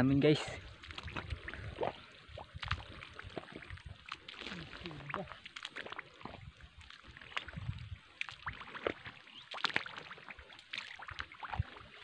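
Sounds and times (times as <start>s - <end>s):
footsteps sloshing in mud: 0.4s - 12.0s.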